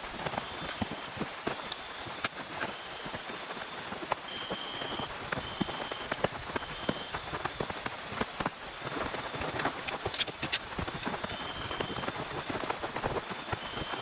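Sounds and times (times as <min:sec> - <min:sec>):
rain on tent: 0:00.0 - 0:14.0.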